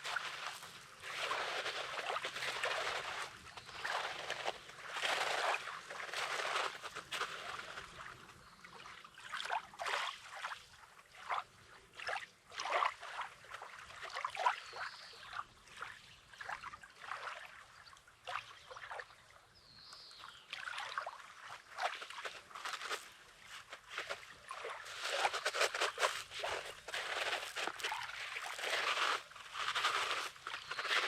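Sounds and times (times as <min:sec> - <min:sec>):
waves lapping on pebbles: 0:00.0 - 0:14.8, 0:20.3 - 0:31.0.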